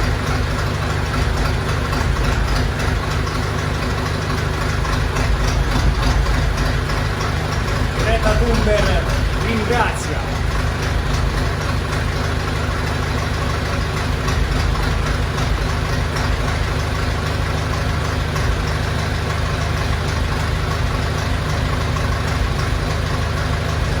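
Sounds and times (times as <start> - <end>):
tractor diesel engine idling: 0.0 - 24.0.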